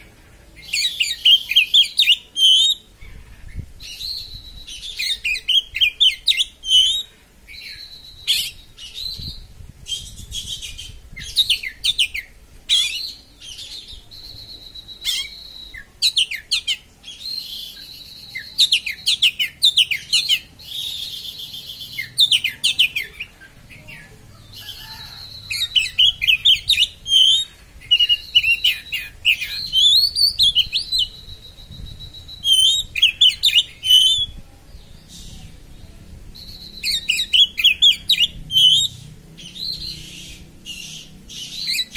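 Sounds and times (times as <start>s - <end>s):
songbird singing and whistling: 0.0s - 41.9s.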